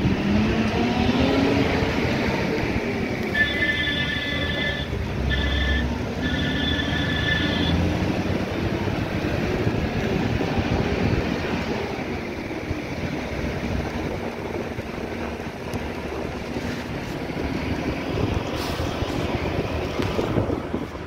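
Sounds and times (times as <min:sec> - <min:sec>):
vehicle rumble from inside: 0:00.0 - 0:21.0
wind noise: 0:00.0 - 0:21.0.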